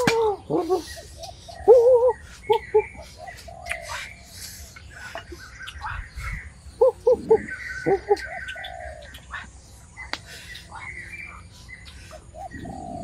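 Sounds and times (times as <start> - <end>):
forest insects: 0.0 - 13.0.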